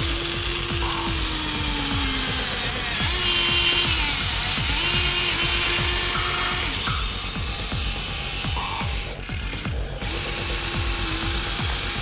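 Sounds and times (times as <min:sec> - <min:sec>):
background music with quick beat: 0:00.0 - 0:12.0
toy electric motors whining: 0:00.0 - 0:12.0.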